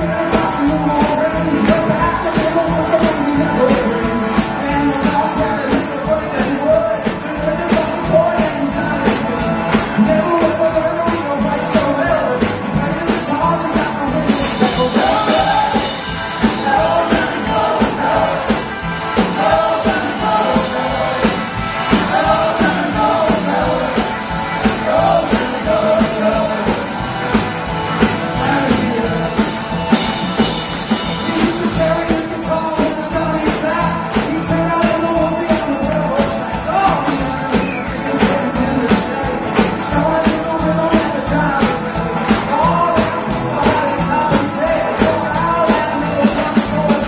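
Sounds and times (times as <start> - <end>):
lead and backing singing: 0.0 - 47.0
rock and roll band playing: 0.0 - 47.0.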